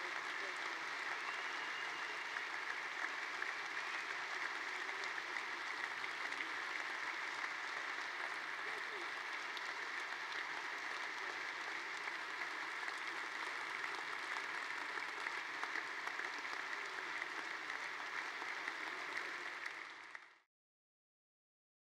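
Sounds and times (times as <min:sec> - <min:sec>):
crowd clapping: 0:00.0 - 0:20.5.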